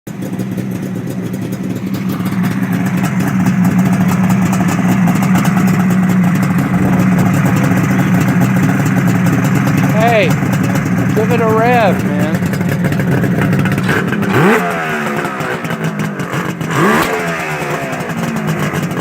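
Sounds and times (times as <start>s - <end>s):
motorcycle engine idling: 0.1s - 19.0s.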